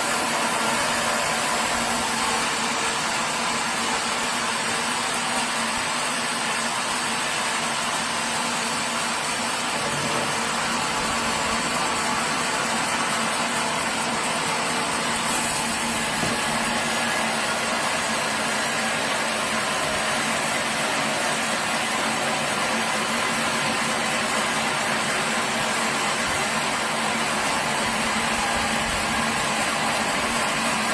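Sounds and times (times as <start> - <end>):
sawmill machinery running: 0.0 - 30.9.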